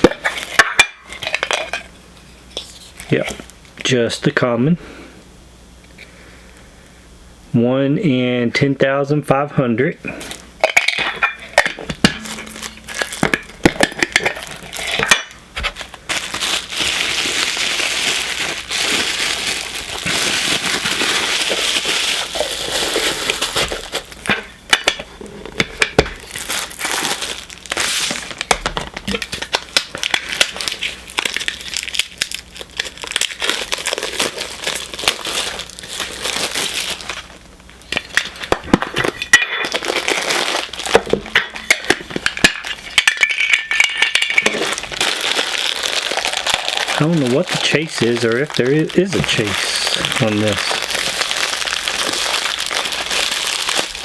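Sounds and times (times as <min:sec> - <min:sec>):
plastic packaging crinkling: 0:00.0 - 0:01.9, 0:10.1 - 0:54.0.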